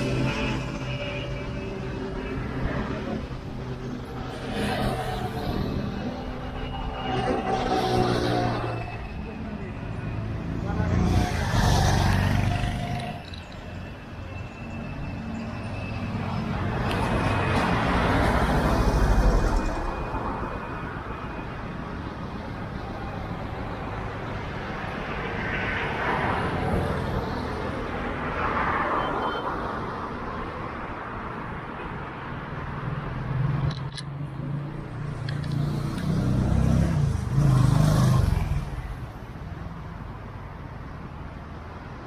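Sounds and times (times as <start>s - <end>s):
light street traffic: 0.0s - 42.0s.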